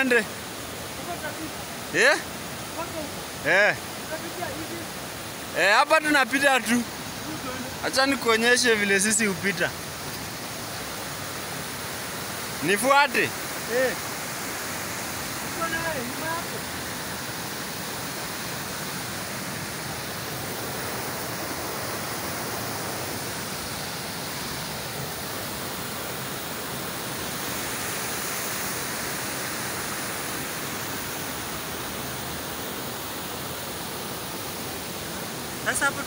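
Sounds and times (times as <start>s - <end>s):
waterfall rushing over rocks: 0.0s - 36.0s.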